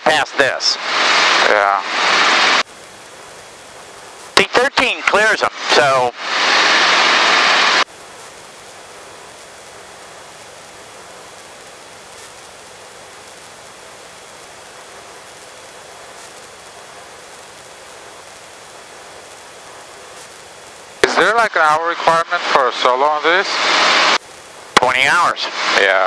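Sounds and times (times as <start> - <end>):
burst of static: 0.0 - 26.0
radio intercom hiss: 0.0 - 26.0.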